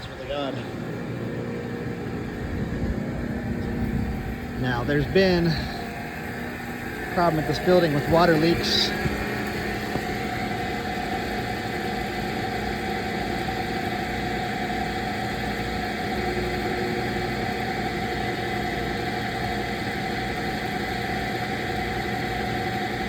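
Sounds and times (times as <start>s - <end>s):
machinery hum and whine: 0.0s - 23.0s.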